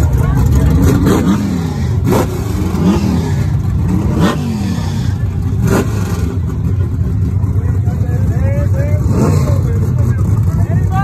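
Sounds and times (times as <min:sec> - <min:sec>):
drag racing engine revving: 0:00.0 - 0:11.0.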